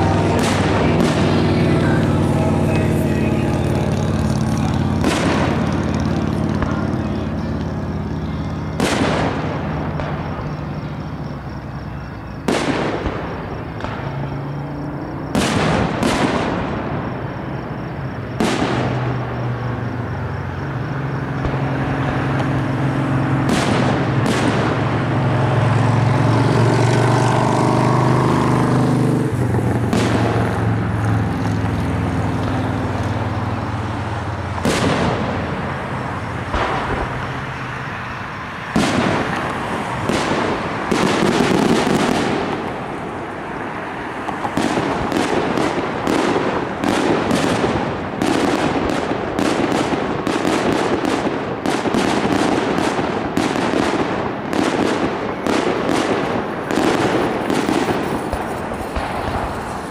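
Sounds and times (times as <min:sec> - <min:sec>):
fireworks bursting with bangs: 0:00.0 - 0:59.9.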